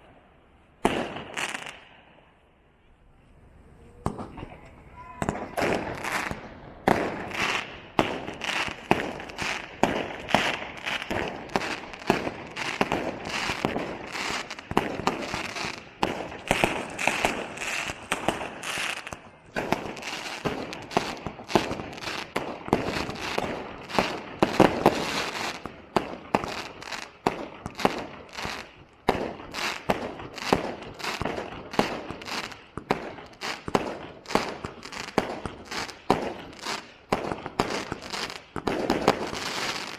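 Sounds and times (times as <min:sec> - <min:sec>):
fireworks crackling: 0:00.0 - 0:39.9
fireworks bangs and pops: 0:00.8 - 0:02.2, 0:04.0 - 0:39.9.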